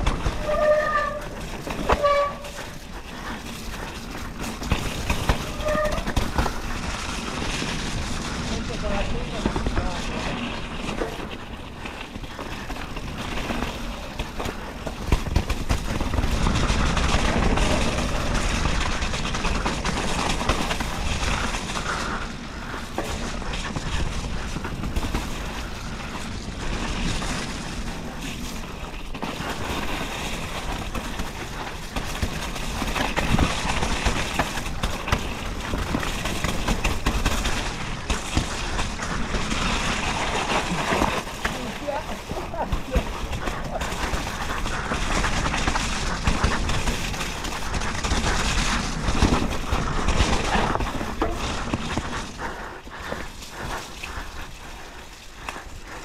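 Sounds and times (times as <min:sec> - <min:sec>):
bike rattling over bumps: 0:00.0 - 0:56.0
tyres rumbling on wet ground: 0:00.0 - 0:56.0.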